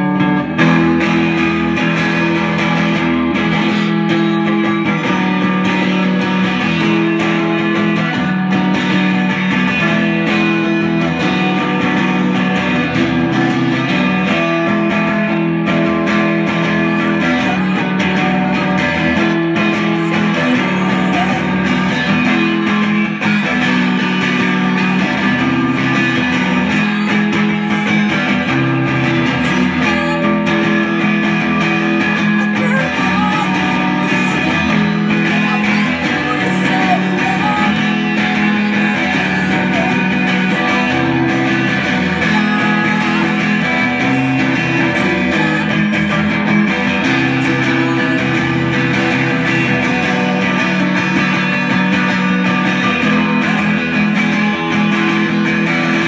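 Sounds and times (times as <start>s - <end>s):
electric guitar: 0.0s - 56.0s.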